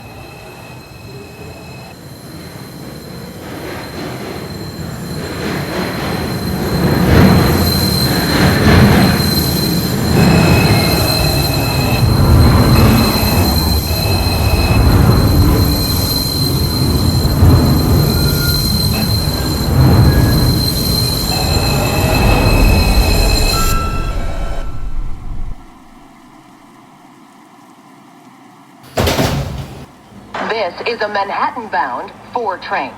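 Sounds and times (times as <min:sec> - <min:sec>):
wheels squealing on rails: 0:00.0 - 0:26.5
subway train rumble: 0:00.0 - 0:27.4, 0:28.0 - 0:32.9.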